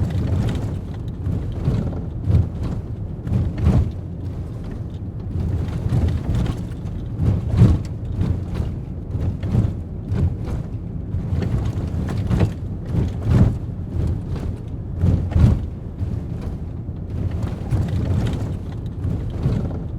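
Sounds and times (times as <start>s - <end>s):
pickup truck rumbling: 0.0s - 19.9s
truck knocks and jolts: 0.0s - 19.9s.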